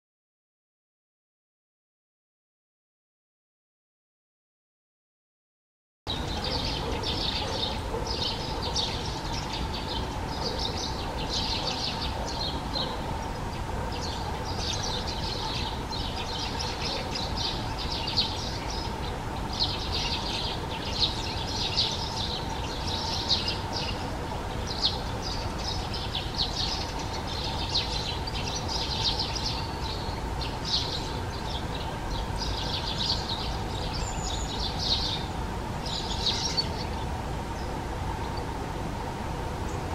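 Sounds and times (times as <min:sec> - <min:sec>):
faint steady hum: 0:06.1 - 0:39.9.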